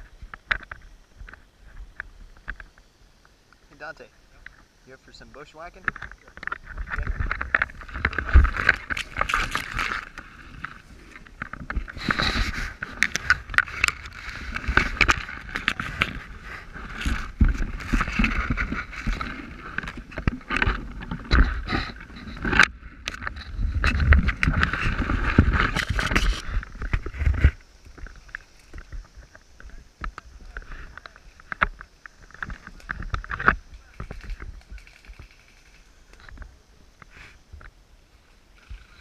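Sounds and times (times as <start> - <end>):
leaves rustling against camera: 0.0 - 39.0.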